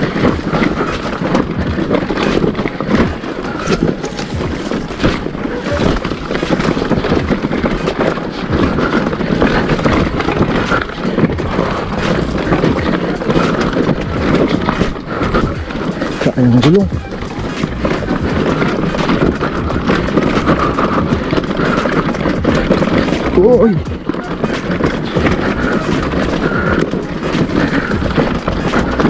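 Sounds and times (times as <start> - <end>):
bike knocking and rattling: 0.0 - 29.0
wind rushing on microphone: 0.0 - 29.0.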